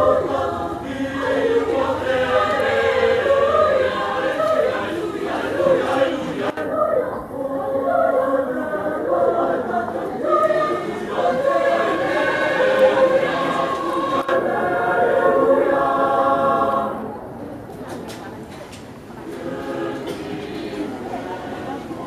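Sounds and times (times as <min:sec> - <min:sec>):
mixed choir singing: 0:00.0 - 0:17.4, 0:19.2 - 0:22.0.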